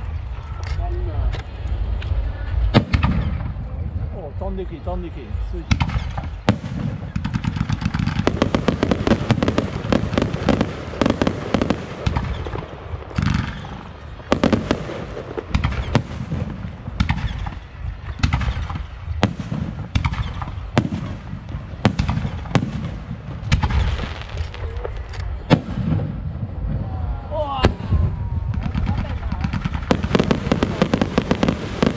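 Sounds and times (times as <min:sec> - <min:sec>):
fireworks crackling: 0:04.4 - 0:31.9.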